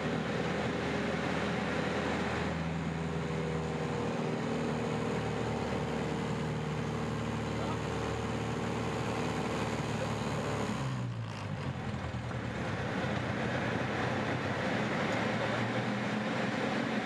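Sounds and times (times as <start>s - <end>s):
aircraft engine and propeller: 0.0s - 17.0s.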